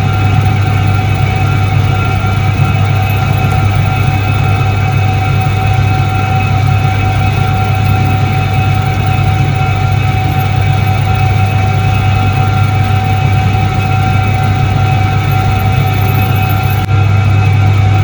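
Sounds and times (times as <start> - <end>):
faint whining tones: 0.0 - 18.0
washing machine motor humming: 0.0 - 18.0.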